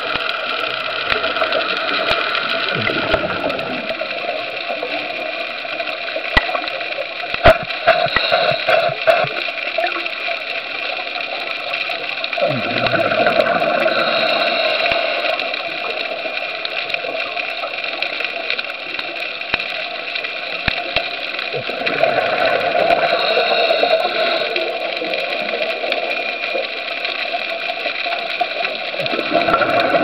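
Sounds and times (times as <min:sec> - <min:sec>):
underwater rushing water: 0:00.0 - 0:30.0.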